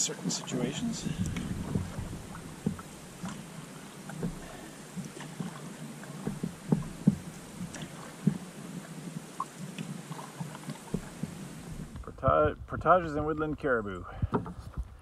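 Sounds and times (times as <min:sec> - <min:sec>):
paddle strokes in water: 0:00.0 - 0:15.0
water splashes: 0:00.0 - 0:15.0
short knocks on canoe: 0:00.8 - 0:13.3, 0:14.1 - 0:15.0.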